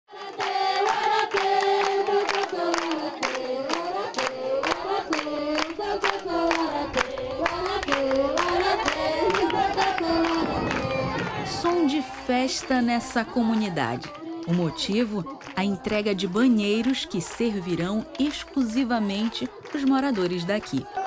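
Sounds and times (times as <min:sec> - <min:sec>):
women and children singing: 0:00.1 - 0:21.0
hands clapping to the beat: 0:00.2 - 0:21.0.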